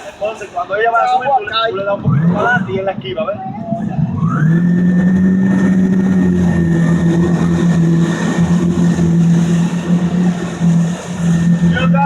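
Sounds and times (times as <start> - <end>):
motorboat engine running: 1.7 - 12.0.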